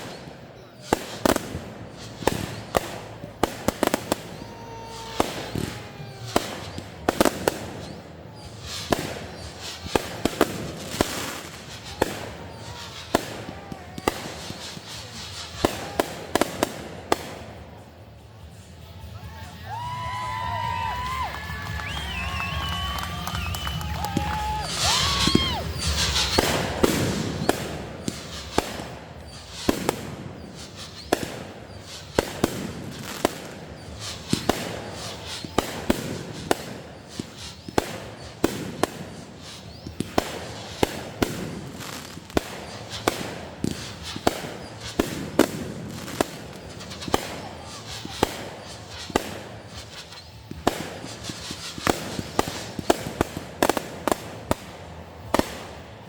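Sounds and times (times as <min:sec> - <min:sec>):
fireworks bangs and pops: 0:00.0 - 0:56.0
fireworks crackling: 0:00.0 - 0:56.0.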